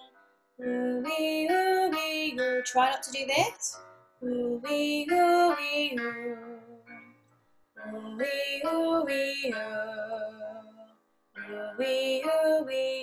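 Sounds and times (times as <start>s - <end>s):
woman singing vocal warm-up: 0.0s - 6.9s, 7.8s - 13.0s.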